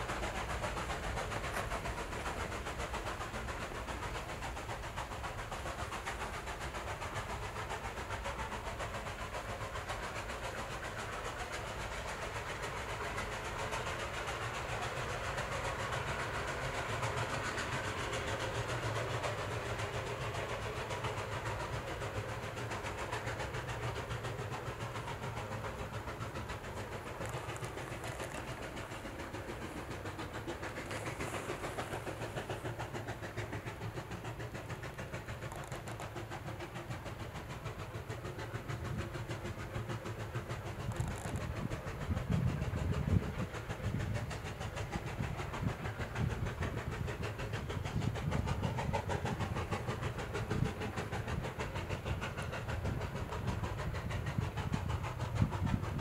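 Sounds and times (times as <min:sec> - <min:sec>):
steam locomotive working: 0:00.0 - 0:56.0.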